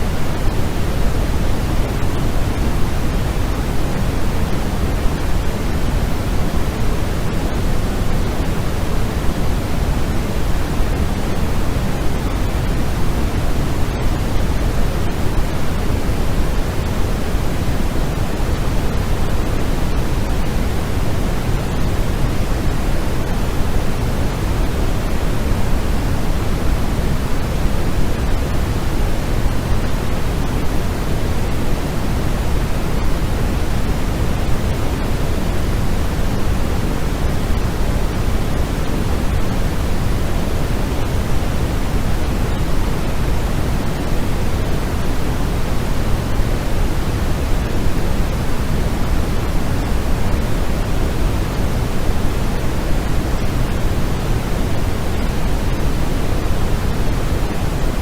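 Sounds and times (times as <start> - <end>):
steady pink noise: 0.0 - 58.0.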